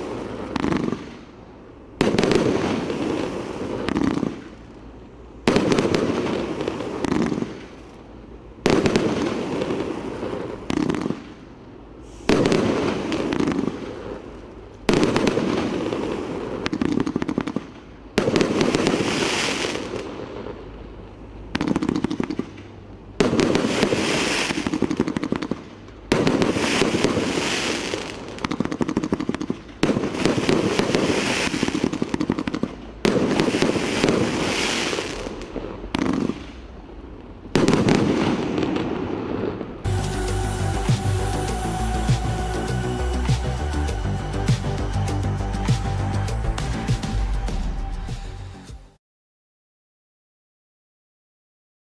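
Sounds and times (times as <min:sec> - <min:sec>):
firework bangs: 0:00.0 - 0:01.4, 0:02.0 - 0:04.8, 0:05.5 - 0:07.9, 0:08.6 - 0:20.6, 0:23.2 - 0:47.9
firework crackling: 0:00.0 - 0:20.8, 0:23.2 - 0:48.6.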